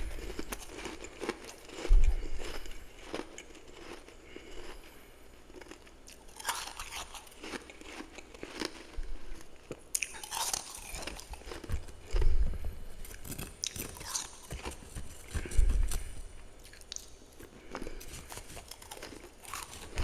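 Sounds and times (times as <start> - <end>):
chewing crunchy frost: 0.0 - 20.0.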